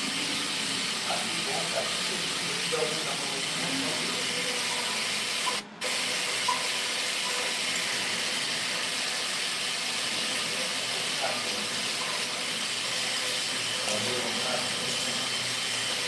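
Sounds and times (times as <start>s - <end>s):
blender running: 0.0s - 16.0s.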